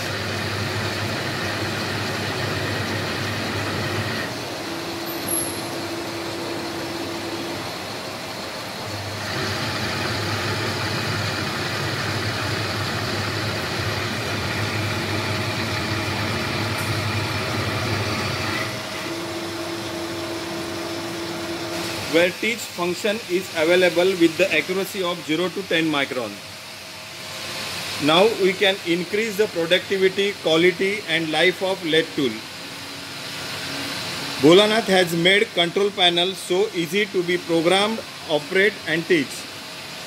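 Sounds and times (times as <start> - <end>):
lathe machine hum: 0.0 - 40.0.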